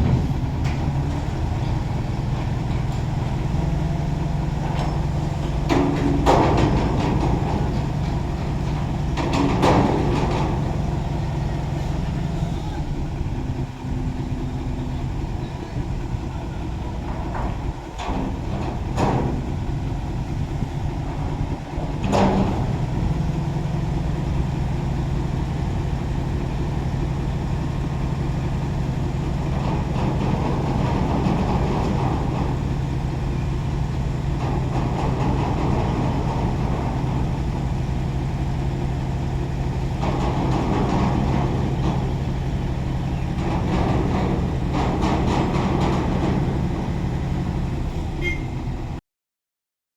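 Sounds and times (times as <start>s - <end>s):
truck diesel engine humming: 0.0s - 49.0s.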